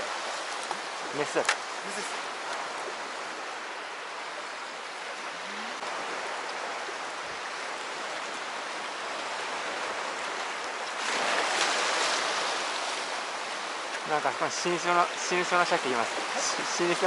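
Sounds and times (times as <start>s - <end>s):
sea water washing along shore: 0.0s - 17.0s.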